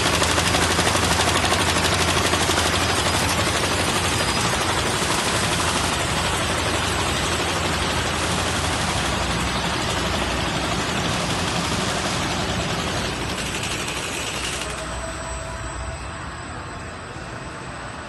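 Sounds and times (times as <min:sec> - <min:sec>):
machine rapid mechanical clatter: 0:00.0 - 0:15.1.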